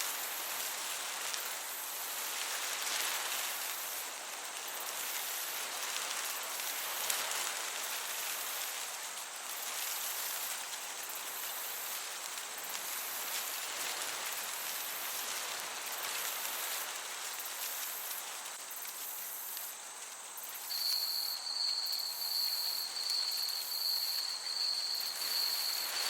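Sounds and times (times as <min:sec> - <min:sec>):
crickets chirping: 0:00.0 - 0:26.0
soft breeze: 0:00.0 - 0:26.0.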